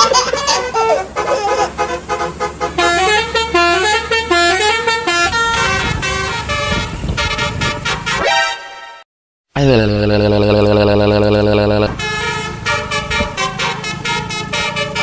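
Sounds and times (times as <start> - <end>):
multi-note air horn tune: 0.7 - 9.0, 9.7 - 15.0.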